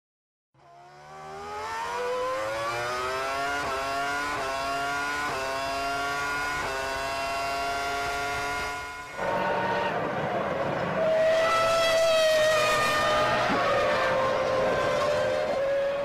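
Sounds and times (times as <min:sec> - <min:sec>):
car engine revving: 0:00.6 - 0:16.0.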